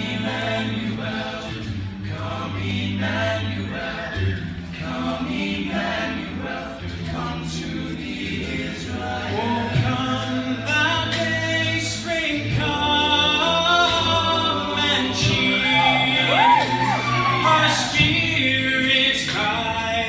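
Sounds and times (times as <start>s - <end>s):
a cappella ensemble singing: 0.0s - 20.0s.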